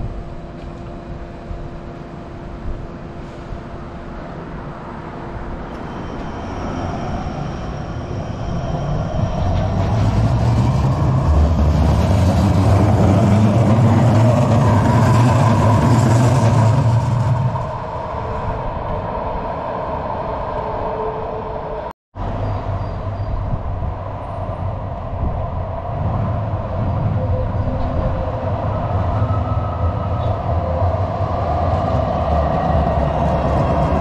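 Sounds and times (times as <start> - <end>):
light-rail train rumbling past: 0.0 - 34.0.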